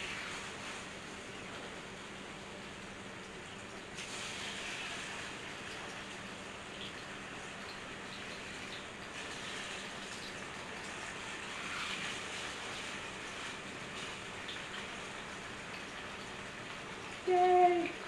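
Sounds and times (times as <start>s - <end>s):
chicken frying in oil: 0.0s - 18.0s.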